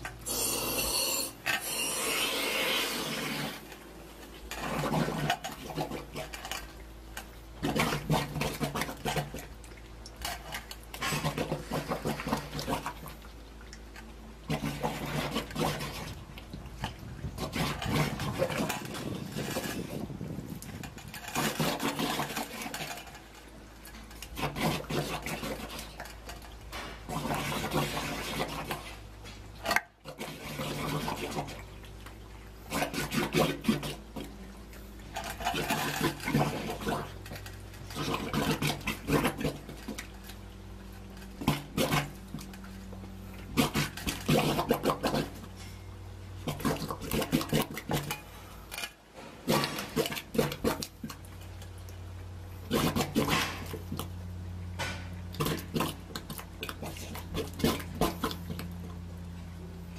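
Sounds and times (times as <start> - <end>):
bubbles gurgling through slurry: 0.0 - 48.5, 49.4 - 54.2, 55.2 - 59.3
steady low hum: 0.0 - 59.9.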